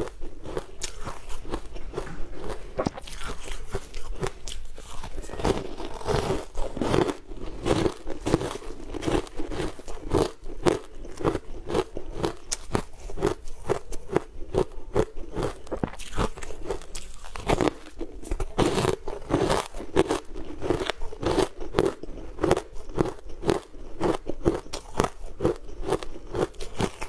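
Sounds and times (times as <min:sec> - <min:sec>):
crunching and chewing food: 0:00.0 - 0:27.0.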